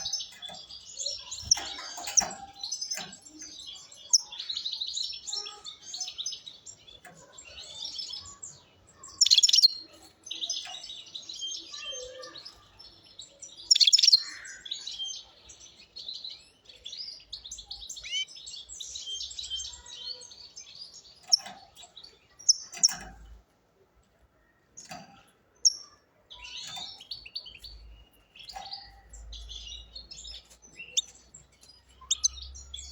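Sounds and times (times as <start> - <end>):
goldfinch singing: 0.0 - 23.3, 24.8 - 32.9.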